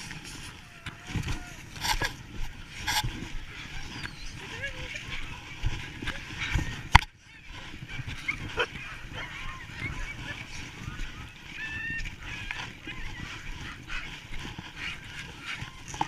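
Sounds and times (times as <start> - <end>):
sled dogs yelping and whining: 0.0 - 16.0.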